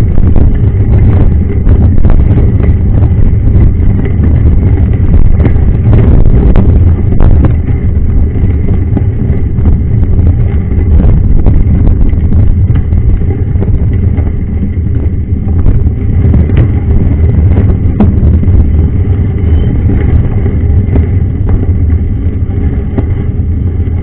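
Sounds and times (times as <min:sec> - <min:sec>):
bike tyres rumbling on gravel: 0:00.0 - 0:24.0.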